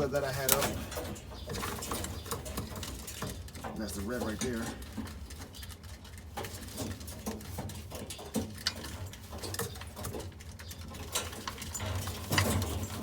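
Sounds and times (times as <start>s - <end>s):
pigeons pecking at feed: 0.0s - 13.0s.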